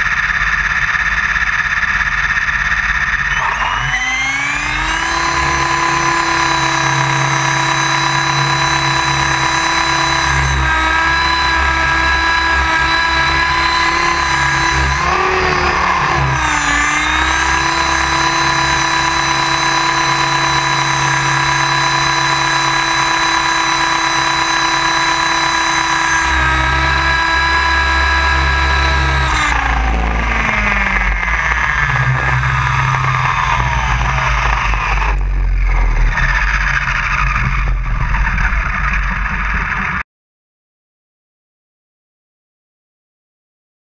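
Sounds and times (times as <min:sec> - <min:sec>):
rc helicopter motor whine: 0:00.0 - 0:40.0.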